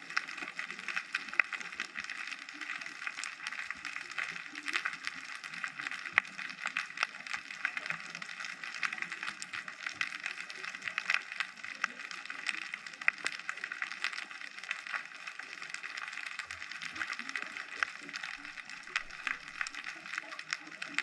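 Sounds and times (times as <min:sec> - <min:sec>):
underwater crackle of tiny clicks: 0:00.0 - 0:21.0.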